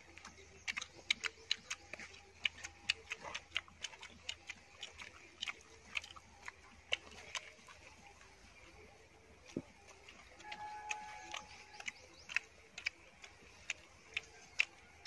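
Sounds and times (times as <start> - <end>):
open-mouth chewing smacks: 0.0 - 15.0.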